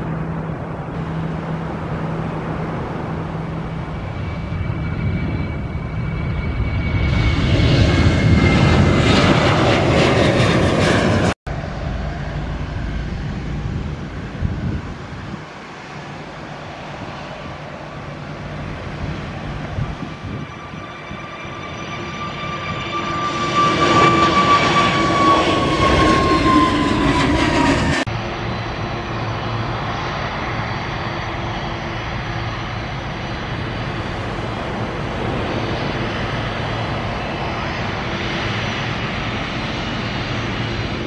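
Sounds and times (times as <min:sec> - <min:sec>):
jet engines roaring on take-off: 0:00.0 - 0:41.0.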